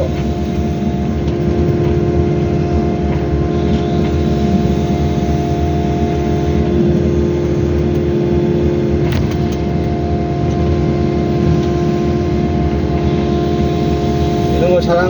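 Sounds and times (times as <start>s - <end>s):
excavator engine running: 0.0s - 15.0s
hydraulic pump whine: 0.0s - 15.0s.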